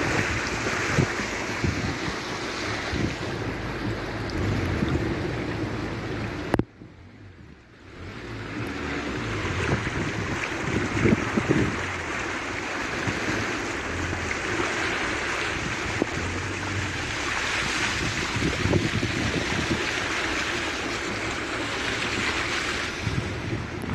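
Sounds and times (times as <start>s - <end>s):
wind buffeting microphone: 0.0s - 7.6s, 8.6s - 23.9s
floodwater rushing and splashing: 0.0s - 23.9s
rain: 0.0s - 23.9s.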